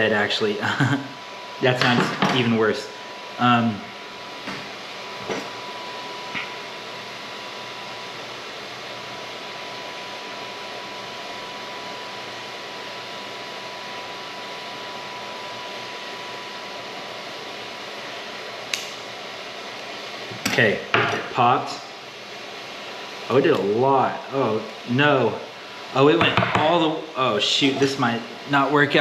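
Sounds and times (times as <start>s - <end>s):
fan-like hiss: 0.0s - 29.0s.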